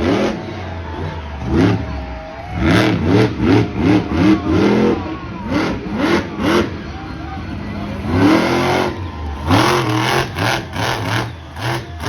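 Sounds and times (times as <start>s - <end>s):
engine idling: 0.0s - 12.0s
truck engine revving: 0.0s - 12.0s.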